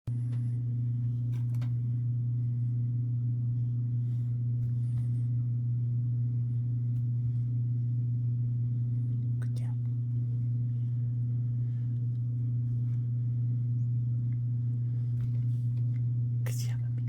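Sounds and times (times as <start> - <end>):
low machine hum: 0.1 - 17.0.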